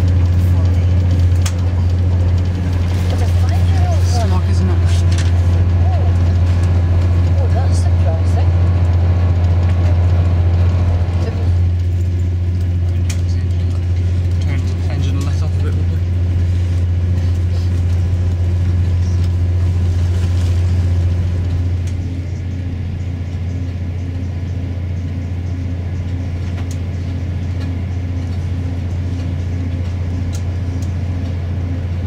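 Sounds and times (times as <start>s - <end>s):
diesel train rumbling: 0.0s - 32.0s.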